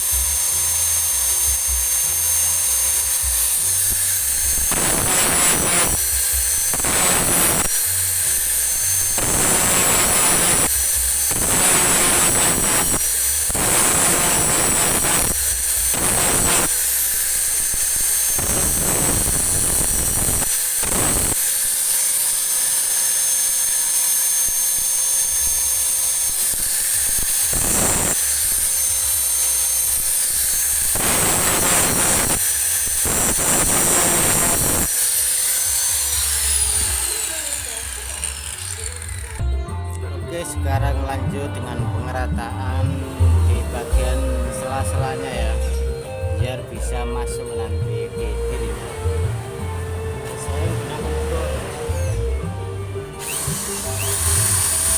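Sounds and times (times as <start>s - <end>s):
electric grinder on metal: 0.0s - 54.9s.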